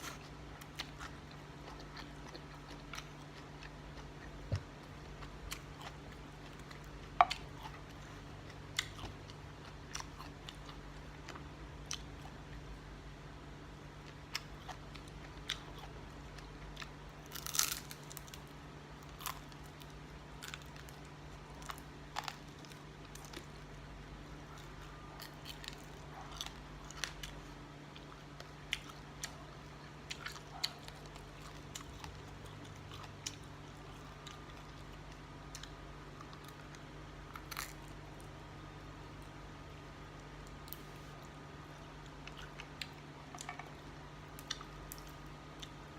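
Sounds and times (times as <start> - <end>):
person chewing food: 0.0 - 12.7, 14.0 - 18.4, 19.0 - 38.4, 40.0 - 45.9
steady low hum: 0.0 - 45.9.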